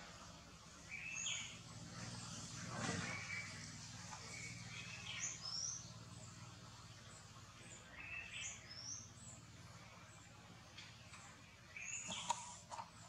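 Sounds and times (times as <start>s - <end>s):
low steady hum: 0.0s - 13.0s
birds chirping: 0.3s - 13.0s.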